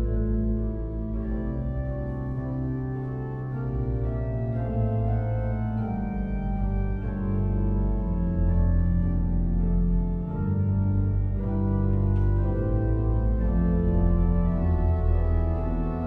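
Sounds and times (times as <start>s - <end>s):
pipe organ chords: 0.0s - 16.0s.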